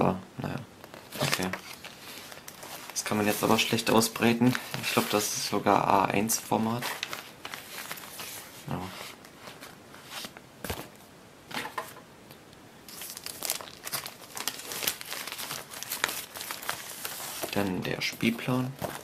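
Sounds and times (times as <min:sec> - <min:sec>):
paper and plastic crinkling: 0:00.8 - 0:05.7, 0:06.3 - 0:10.9, 0:12.9 - 0:19.0.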